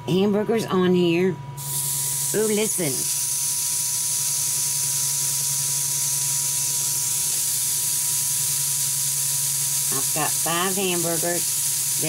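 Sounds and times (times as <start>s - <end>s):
grill fan humming: 0.0s - 12.0s
patties sizzling on grill: 1.6s - 12.0s.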